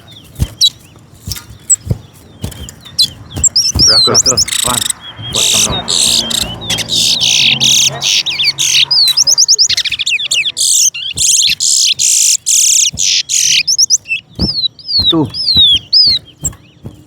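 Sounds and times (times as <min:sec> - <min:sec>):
finch singing rapid song: 0:00.0 - 0:17.0.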